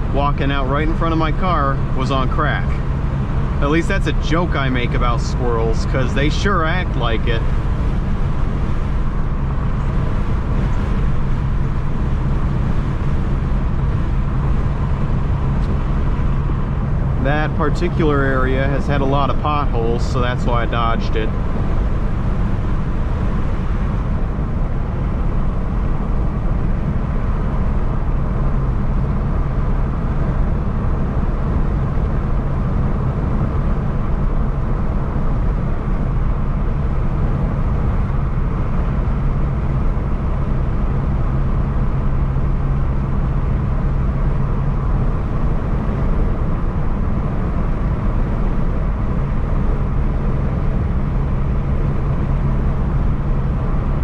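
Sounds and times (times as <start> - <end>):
car engine running: 0.0 - 54.0
road and tyre rumble: 0.0 - 54.0.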